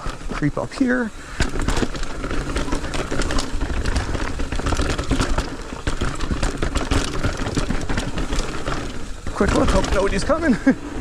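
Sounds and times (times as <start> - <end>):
bike rattling over rocks: 0.0 - 11.0.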